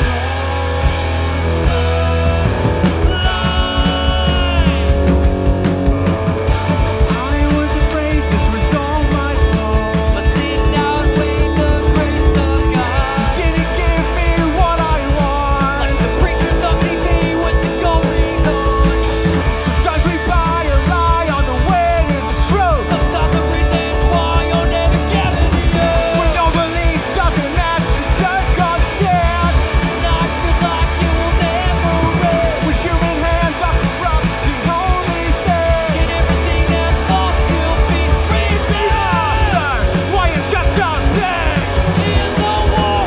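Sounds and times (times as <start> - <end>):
person singing: 0.0 - 5.6, 6.5 - 43.0
bass guitar: 0.0 - 43.0
drum kit: 0.0 - 43.0
electric guitars: 0.0 - 43.0.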